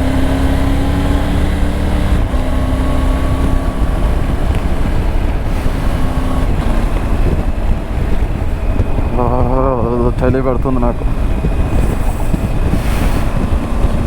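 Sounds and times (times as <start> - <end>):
heavy wind noise on microphone: 0.0 - 14.0
motorcycle engine cruising: 0.0 - 14.0.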